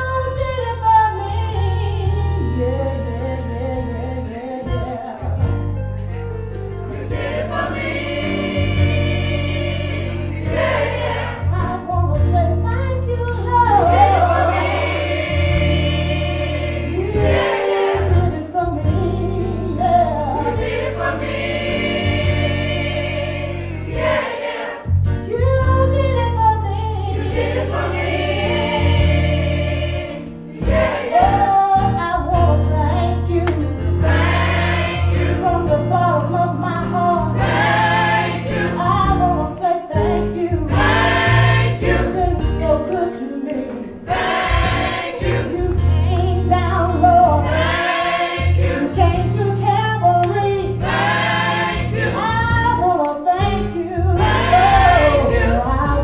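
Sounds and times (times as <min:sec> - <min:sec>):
steady bass accompaniment: 0:00.0 - 0:56.0
gospel choir singing: 0:06.5 - 0:56.0.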